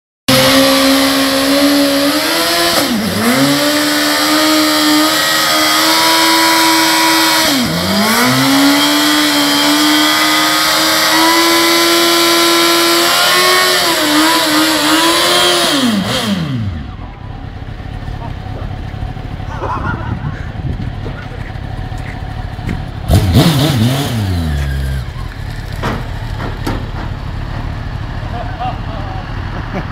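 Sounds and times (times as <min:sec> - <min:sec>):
motorcycle engine revving: 0:00.3 - 0:29.9.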